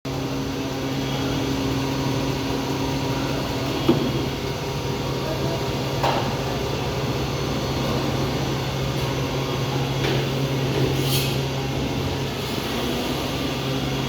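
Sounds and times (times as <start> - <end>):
hydraulic machine humming: 0.1 - 14.0.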